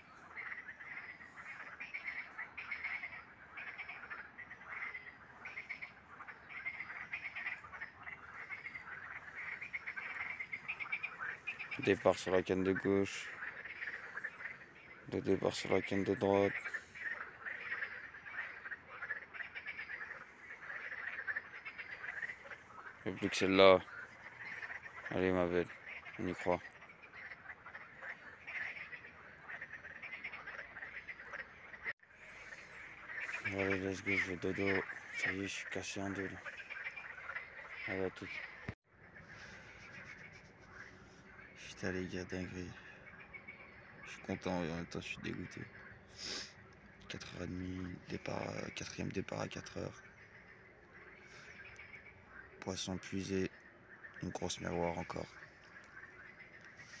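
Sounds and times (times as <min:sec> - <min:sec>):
frogs croaking in chorus: 0:00.0 - 0:57.0.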